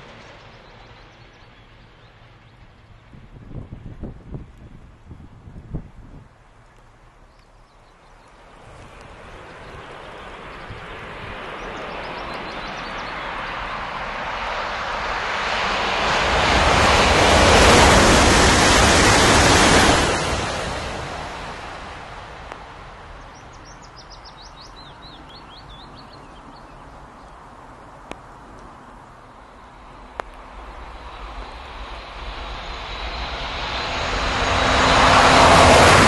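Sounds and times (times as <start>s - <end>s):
train passing at speed: 0.0s - 7.2s, 8.1s - 36.0s.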